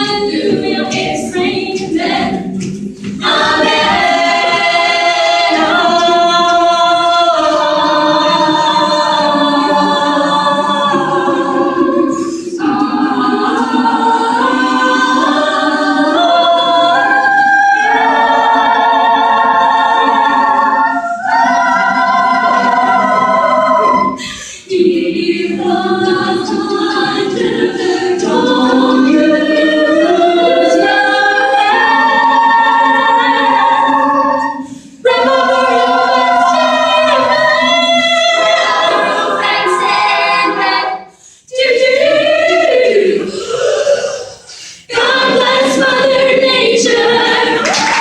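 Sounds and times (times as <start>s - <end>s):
a cappella group singing in harmony: 0.0s - 48.0s.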